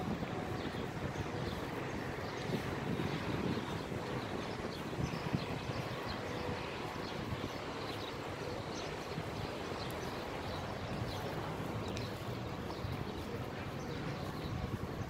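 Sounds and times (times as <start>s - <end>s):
street noise rumble: 0.0s - 15.0s.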